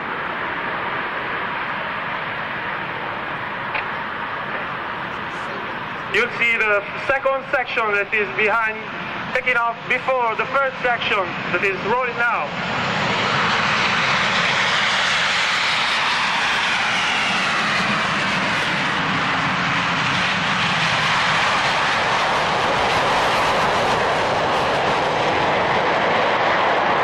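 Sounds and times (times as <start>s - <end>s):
jet aircraft taking off: 0.0s - 27.0s.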